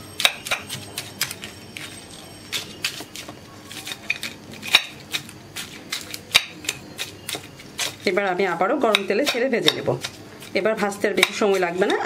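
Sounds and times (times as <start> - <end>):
knife cutting crisp crust: 0.2 - 8.2, 8.8 - 10.6.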